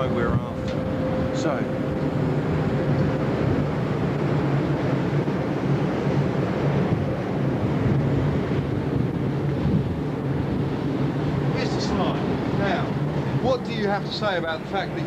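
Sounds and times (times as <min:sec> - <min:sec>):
ship engines rumbling: 0:00.0 - 0:15.0
wind on microphone: 0:00.0 - 0:15.0.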